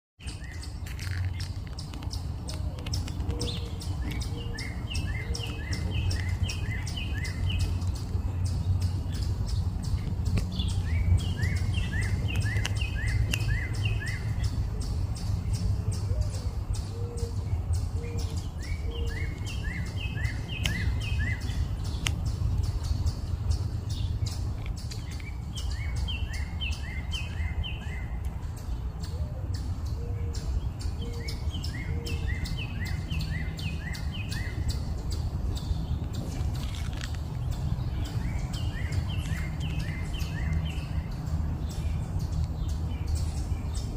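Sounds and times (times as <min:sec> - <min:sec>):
songbird chirping: 0:00.2 - 0:43.9.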